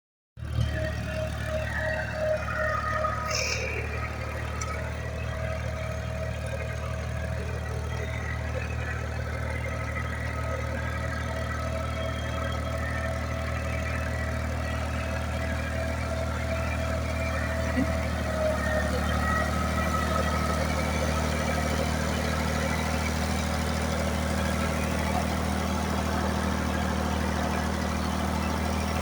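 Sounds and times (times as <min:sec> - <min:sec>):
tractor engine drone: 0:00.4 - 0:29.0.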